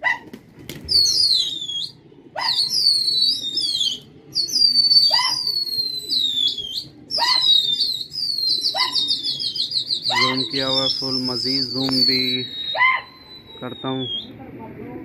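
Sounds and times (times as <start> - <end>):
songbird whistling song: 0.9 - 14.3.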